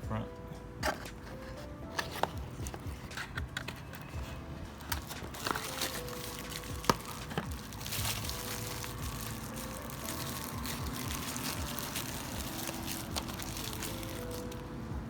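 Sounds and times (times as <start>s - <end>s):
packaging rustling and crinkling: 0.9s - 14.9s.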